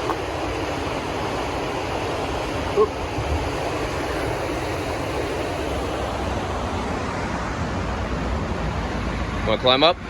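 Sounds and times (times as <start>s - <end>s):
whitewater rushing: 0.0s - 10.0s
wind rumbling on microphone: 0.0s - 10.0s.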